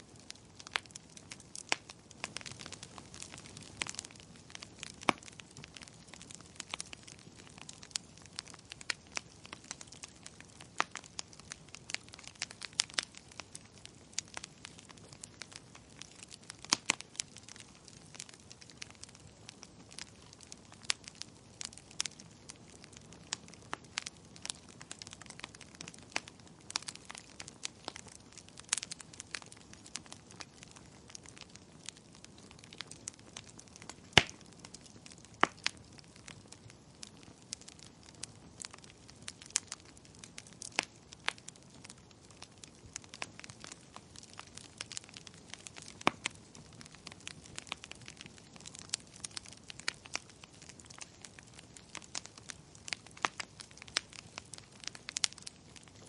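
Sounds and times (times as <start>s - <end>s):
faint steady hiss: 0.0s - 56.0s
wood fire popping and snapping: 0.0s - 56.0s.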